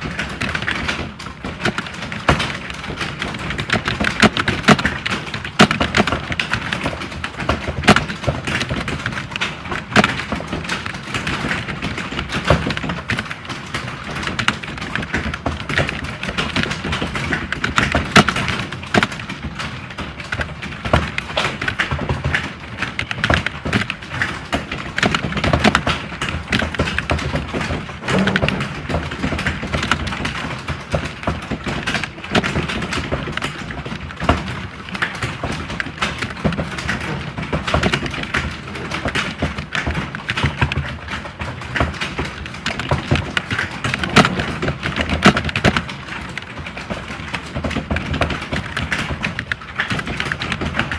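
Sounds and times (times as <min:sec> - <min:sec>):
typing on computer keyboards: 0:00.0 - 0:50.9.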